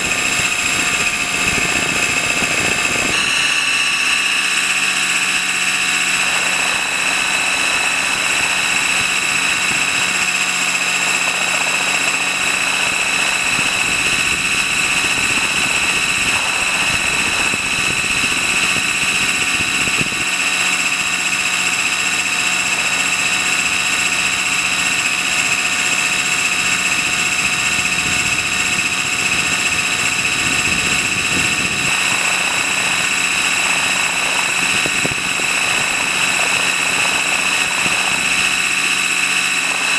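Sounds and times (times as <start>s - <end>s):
model helicopter rotor whine: 0.0s - 39.9s.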